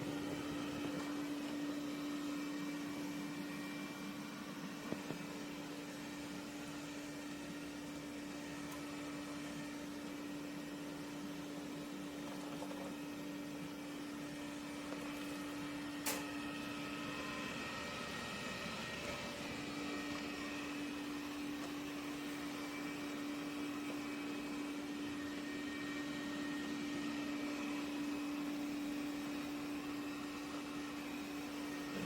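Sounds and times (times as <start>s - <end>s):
robot vacuum motor hum: 0.0s - 32.0s.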